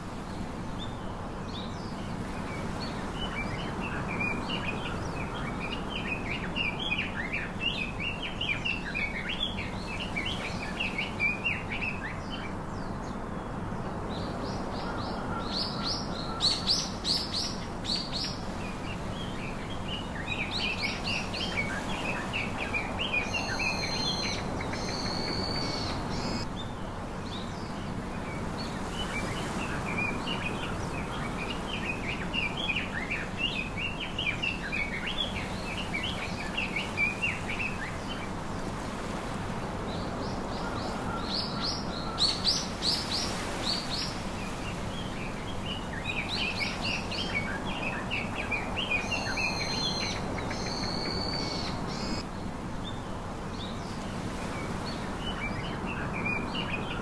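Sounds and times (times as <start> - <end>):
steady background hiss: 0.0 - 57.0
small birds chirping: 0.8 - 57.0.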